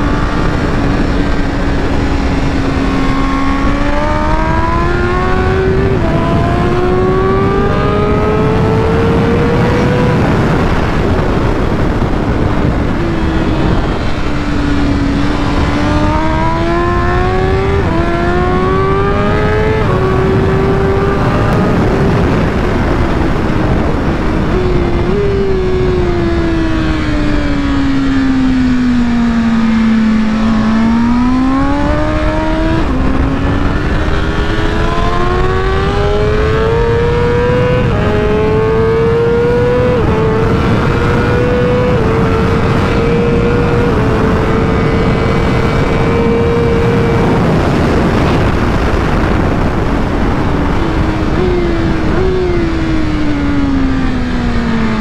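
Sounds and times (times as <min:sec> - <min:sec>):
heavy wind rush: 0:00.0 - 0:55.0
motorcycle engine at high speed: 0:00.0 - 0:55.0.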